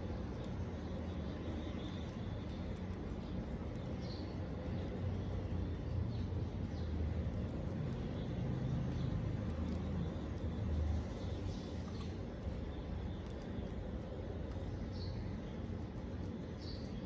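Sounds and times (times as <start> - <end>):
hamsters nibbling lettuce: 0.0 - 17.0
low background rumble: 0.0 - 17.0.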